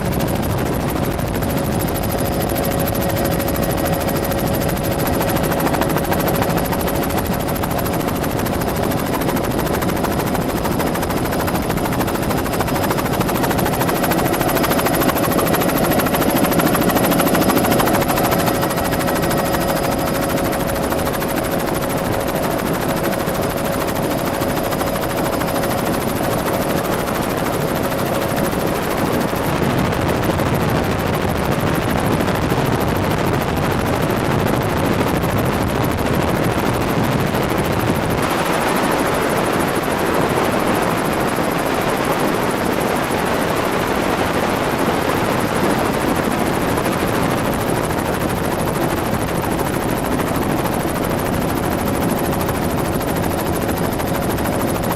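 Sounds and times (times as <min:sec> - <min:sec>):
helicopter rotor and engine noise: 0:00.0 - 0:54.9.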